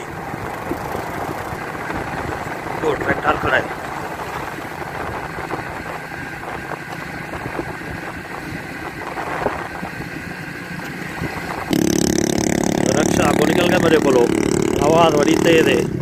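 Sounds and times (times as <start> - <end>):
motor rickshaw engine: 0.0 - 16.0
motorcycle engine and wind: 0.0 - 16.0.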